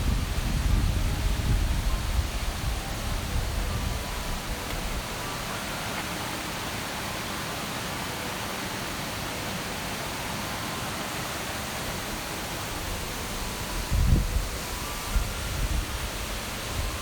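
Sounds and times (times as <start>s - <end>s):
water rushing in gorge: 0.0s - 17.0s.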